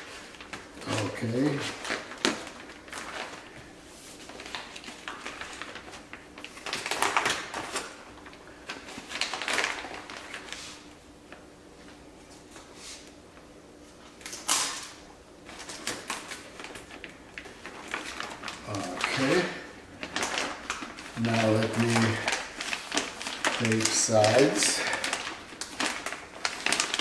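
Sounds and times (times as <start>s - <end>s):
plastic sheeting crinkling and rustling: 0.0s - 12.6s, 15.4s - 27.0s.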